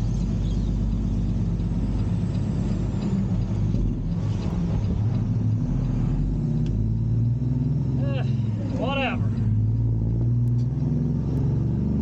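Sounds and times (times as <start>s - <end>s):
truck diesel engine drone: 0.0s - 12.0s.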